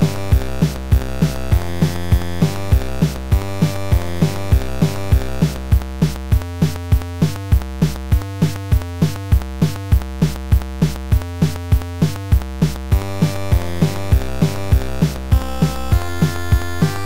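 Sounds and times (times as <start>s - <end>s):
electronic music: 0.0s - 17.0s
thumping beat: 0.0s - 17.0s.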